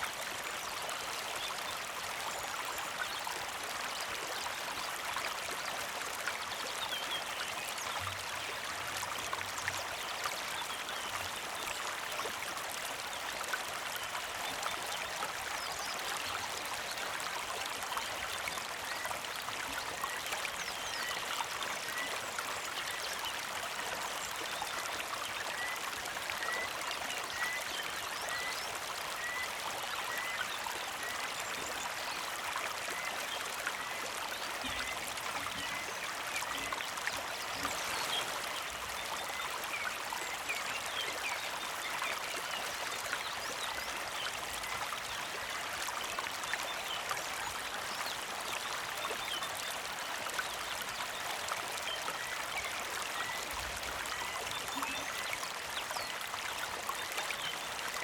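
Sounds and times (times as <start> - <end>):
creek flowing and trickling: 0.0 - 58.0.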